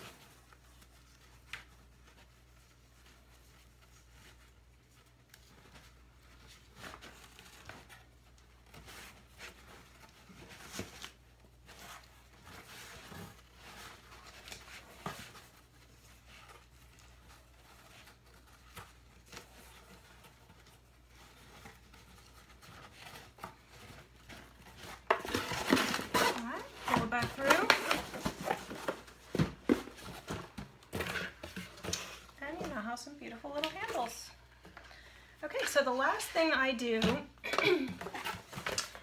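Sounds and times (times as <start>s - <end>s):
ribbon rustling: 0.0s - 34.9s.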